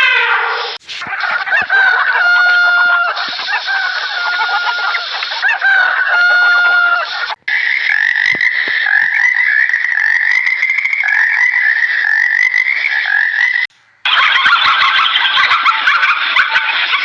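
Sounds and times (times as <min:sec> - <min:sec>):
busy animal chorus: 0:00.3 - 0:17.0
frogs chorus trilling: 0:01.1 - 0:15.8.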